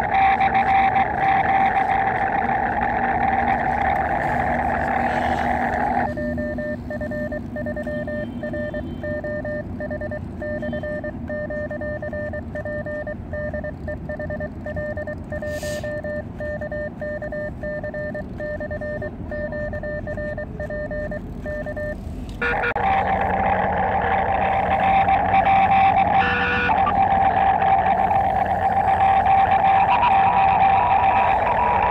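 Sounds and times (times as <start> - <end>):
morse code beeps: 0.0 - 31.9.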